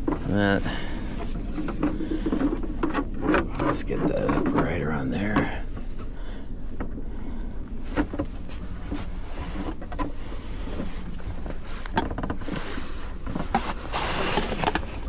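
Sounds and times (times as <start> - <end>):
rustling scrape: 0.0 - 6.8, 7.7 - 15.0
low steady hum: 0.0 - 15.0.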